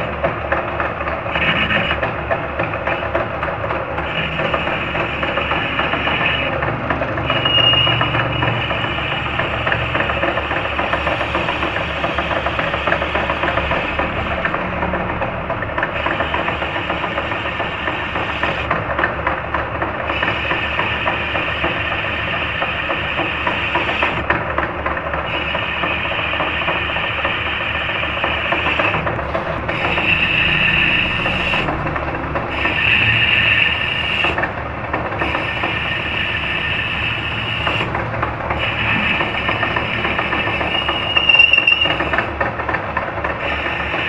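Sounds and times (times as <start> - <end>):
lathe running with clatter: 0.0 - 44.0.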